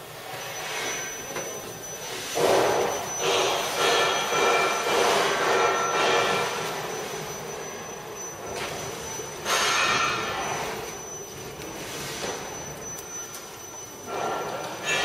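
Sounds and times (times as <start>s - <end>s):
high machine whine: 0.0s - 15.0s
paper slitter machine running: 1.1s - 15.0s.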